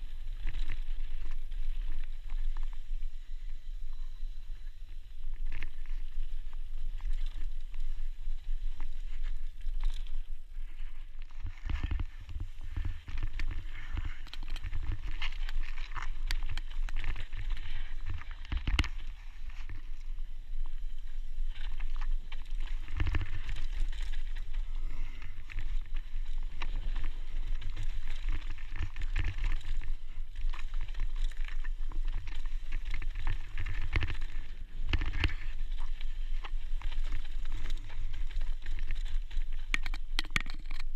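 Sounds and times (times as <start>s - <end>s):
bike tyres crackling over dirt: 0.0s - 40.9s
wind rumble on microphone: 0.0s - 40.9s.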